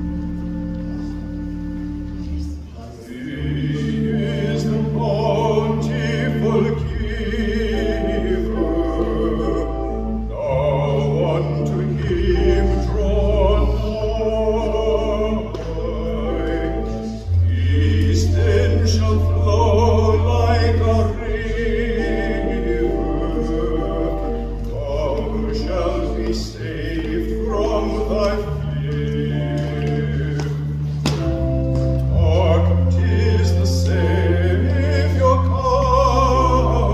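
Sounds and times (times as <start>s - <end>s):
held low accompaniment notes: 0.0s - 36.9s
man singing operatically: 3.1s - 30.8s, 32.1s - 36.9s.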